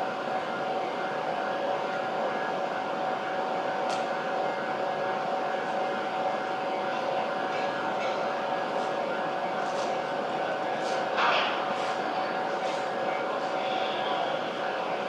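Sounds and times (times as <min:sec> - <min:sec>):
station mechanical hum: 0:00.0 - 0:15.0.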